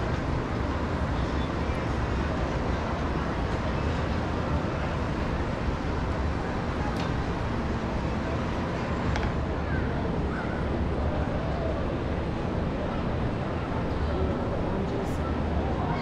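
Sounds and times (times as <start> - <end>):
distant city traffic: 0.0 - 16.0
low wind rumble: 0.0 - 16.0.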